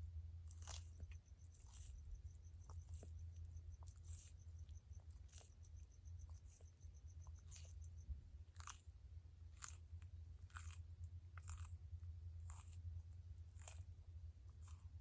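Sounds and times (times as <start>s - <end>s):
tortoise crunching plant food: 0.0s - 15.0s.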